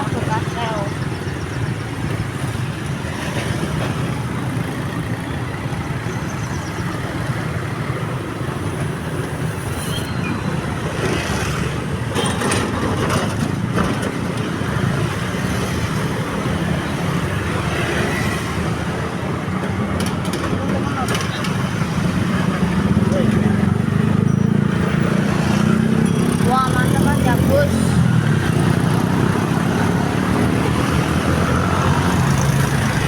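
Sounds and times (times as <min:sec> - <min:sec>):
passing vehicles: 0:00.0 - 0:33.0.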